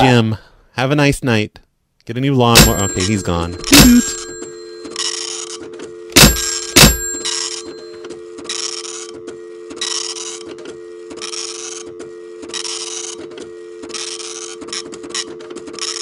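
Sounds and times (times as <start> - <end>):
telephone dial tone: 2.6 - 16.0.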